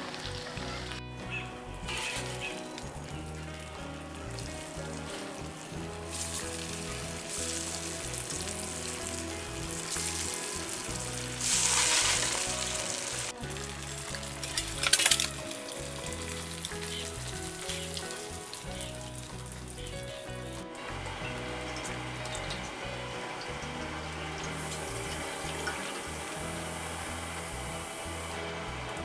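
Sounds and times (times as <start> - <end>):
background music: 0.0 - 29.0
fish deep-frying in hot oil: 0.0 - 29.0.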